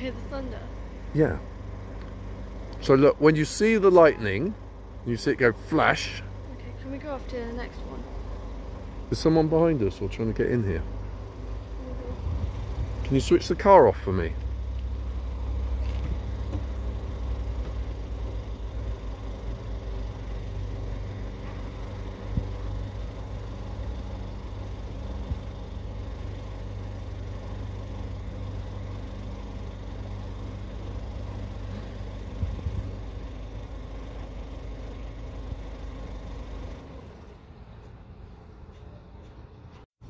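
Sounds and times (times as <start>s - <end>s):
car engine idling: 0.0s - 39.8s.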